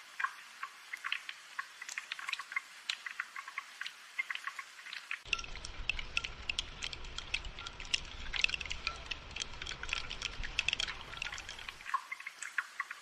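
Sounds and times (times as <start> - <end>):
rain drops pattering: 0.0 - 13.0.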